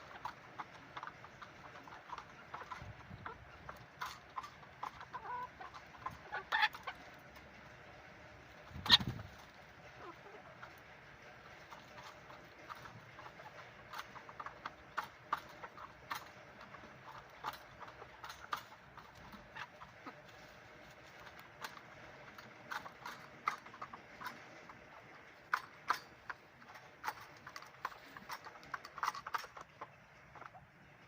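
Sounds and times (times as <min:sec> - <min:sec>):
low steady background noise: 0:00.0 - 0:31.0.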